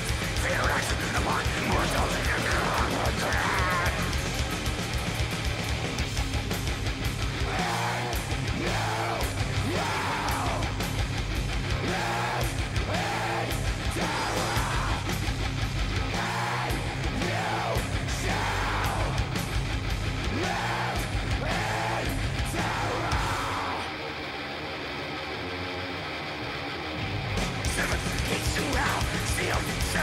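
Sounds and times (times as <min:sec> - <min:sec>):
drums and cymbals: 0:00.0 - 0:23.8, 0:27.4 - 0:30.0
death metal distorted guitars: 0:00.0 - 0:30.0.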